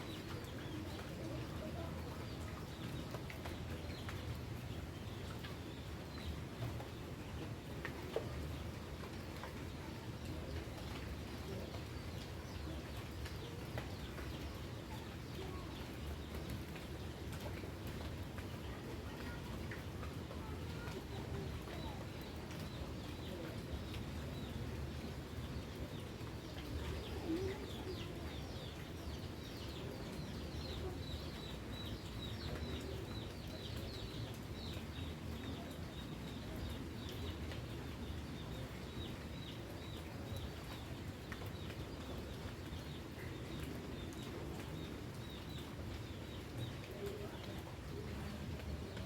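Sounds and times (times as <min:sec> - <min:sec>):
low background noise: 0:00.0 - 0:49.0
rain falling: 0:00.0 - 0:49.0.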